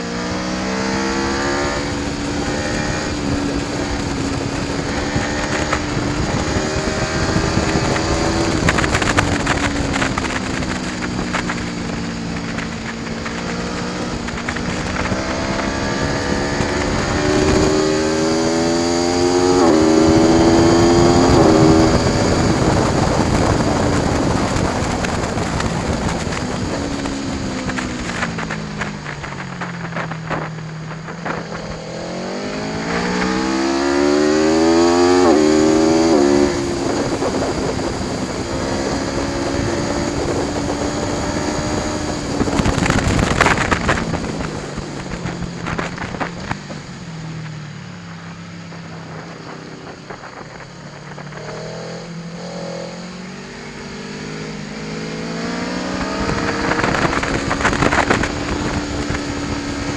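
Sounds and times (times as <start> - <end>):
motorcycle engine revving: 0.0 - 59.9
exhaust crackle: 1.0 - 59.9.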